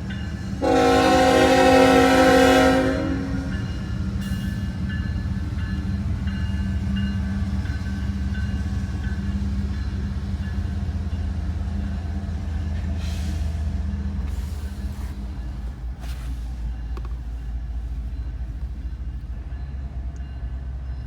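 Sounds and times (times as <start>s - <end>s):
diesel locomotives droning: 0.0s - 21.0s.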